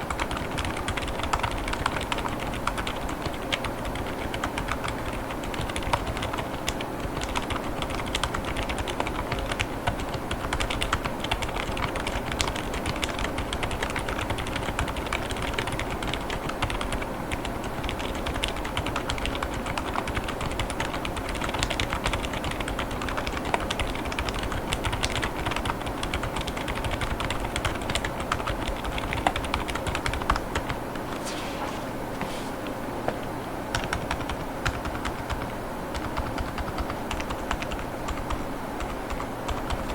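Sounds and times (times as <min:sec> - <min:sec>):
mechanical keyboard typing: 0:00.0 - 0:30.4, 0:33.7 - 0:39.9.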